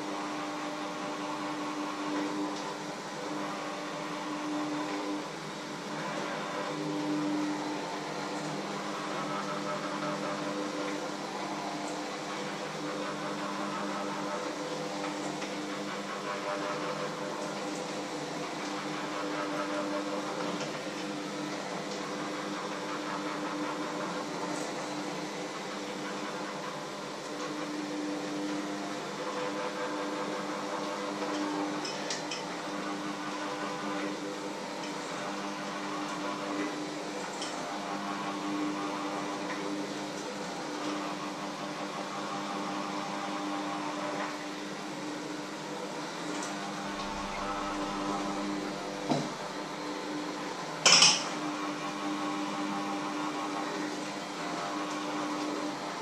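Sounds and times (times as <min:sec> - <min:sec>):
electric hand mixer humming: 0:00.0 - 0:56.0.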